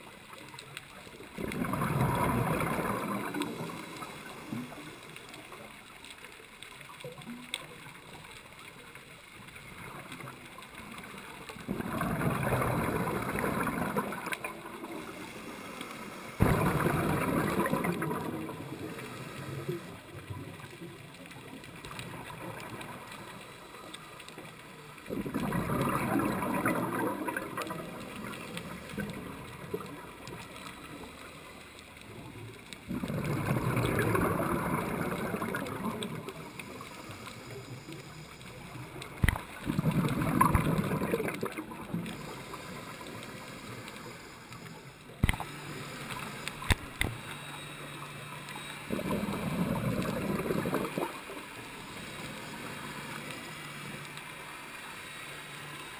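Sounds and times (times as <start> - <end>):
underwater hiss: 0.0 - 5.8, 9.6 - 55.9
exhaled bubbles gurgling: 0.0 - 6.1, 6.7 - 54.1.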